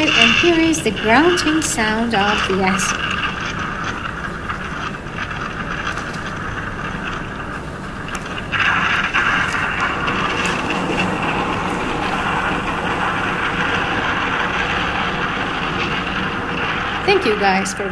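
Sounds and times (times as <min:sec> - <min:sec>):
acid reaction rushing rumble: 0:00.0 - 0:17.9.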